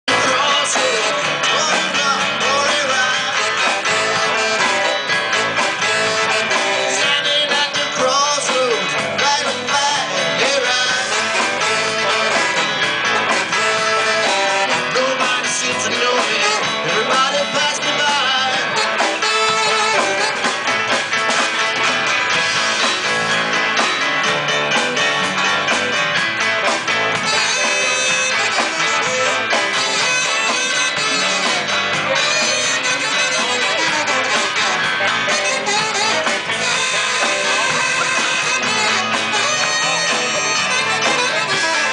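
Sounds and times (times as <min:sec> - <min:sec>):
electric guitar: 0:00.0 - 0:41.9
live blues-rock band: 0:00.1 - 0:41.9.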